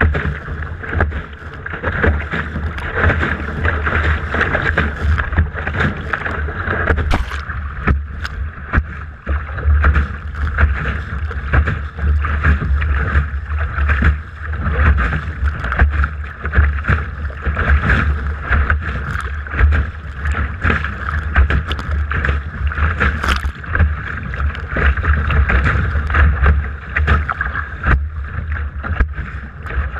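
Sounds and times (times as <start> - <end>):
water slapping against hull: 0.0 - 29.9
wind rumble on microphone: 0.0 - 29.9.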